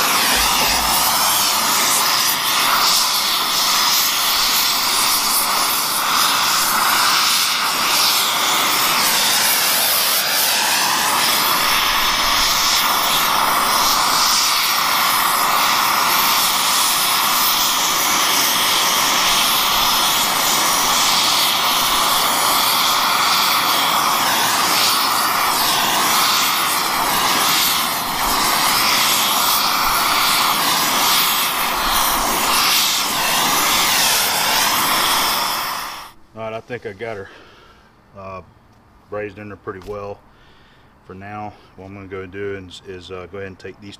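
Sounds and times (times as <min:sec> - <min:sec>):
torch flame hissing: 0:00.0 - 0:36.2.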